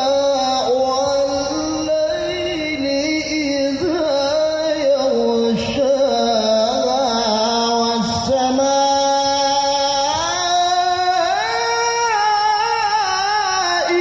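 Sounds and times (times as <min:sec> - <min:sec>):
man reciting melodically over loudspeakers: 0:00.0 - 0:14.0.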